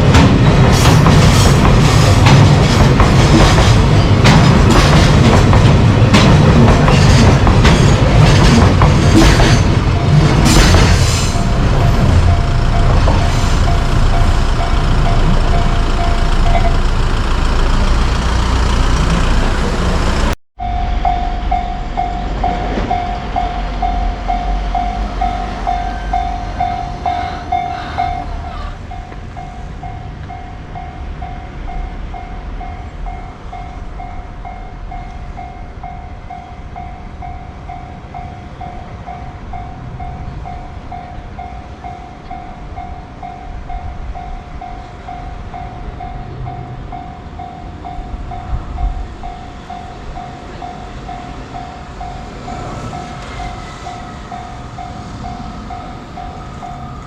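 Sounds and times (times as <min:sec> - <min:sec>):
freight train rumbling past: 0:00.0 - 0:57.0
level crossing warning bell: 0:09.6 - 0:57.0.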